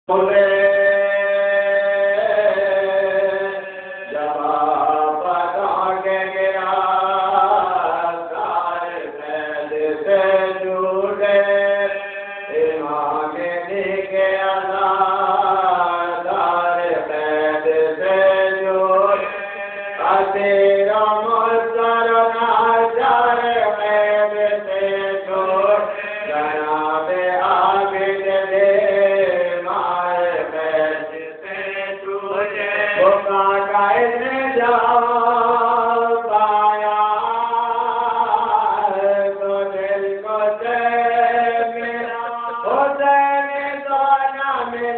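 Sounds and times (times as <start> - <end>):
unaccompanied vocal chanting: 0.1 - 44.9.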